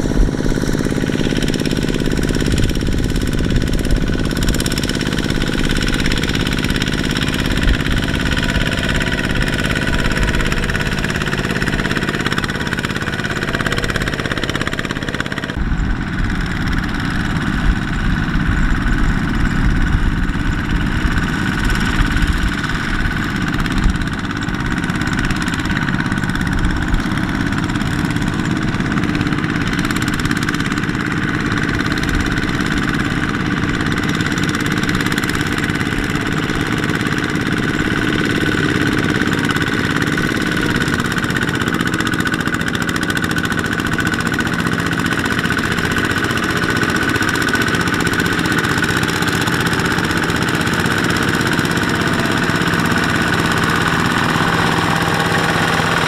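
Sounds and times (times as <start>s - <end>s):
diesel engines running under load: 0.0s - 56.0s.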